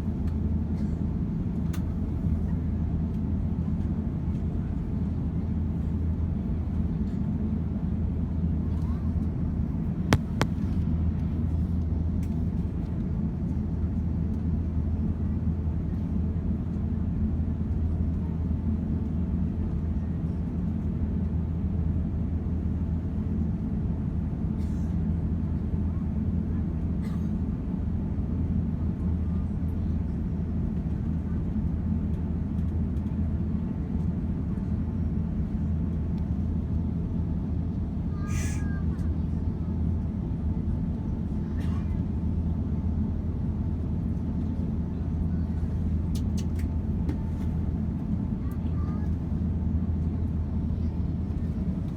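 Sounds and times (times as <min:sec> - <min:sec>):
aircraft cabin drone: 0:00.0 - 0:51.9.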